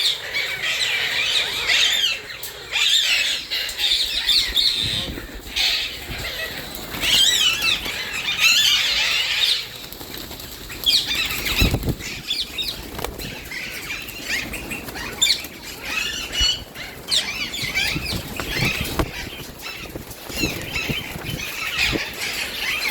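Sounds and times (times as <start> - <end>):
birds chattering: 0.0 - 22.9
wings flapping: 0.3 - 22.9.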